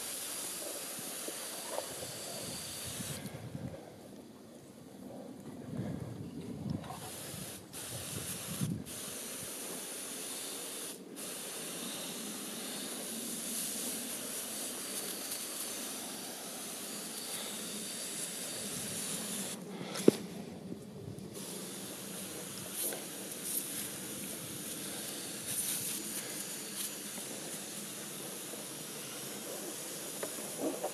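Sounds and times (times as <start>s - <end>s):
sprayer misting hiss: 0.0s - 3.4s, 6.8s - 20.5s, 21.2s - 30.9s.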